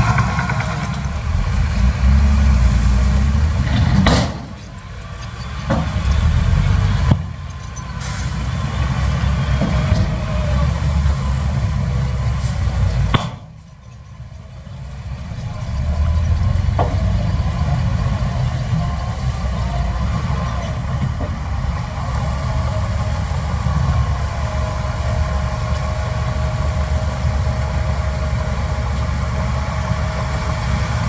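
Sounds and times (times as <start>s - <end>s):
heavy diesel machinery engines: 0.0s - 31.0s.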